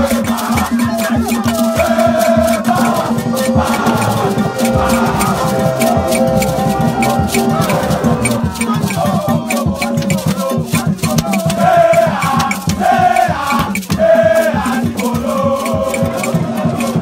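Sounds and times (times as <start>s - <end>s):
people singing: 0.0s - 17.0s
shaker and drum beat: 0.0s - 17.0s.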